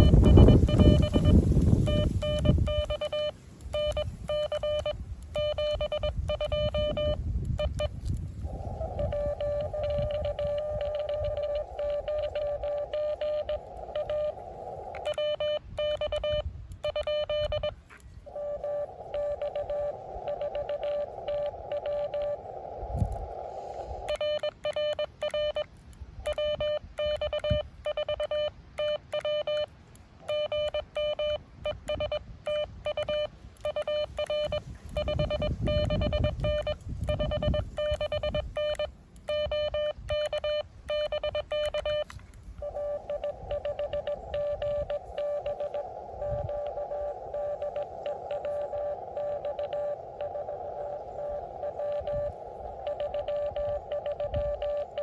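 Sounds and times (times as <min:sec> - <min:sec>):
morse code tone: 0:00.0 - 0:22.4, 0:24.0 - 0:55.0.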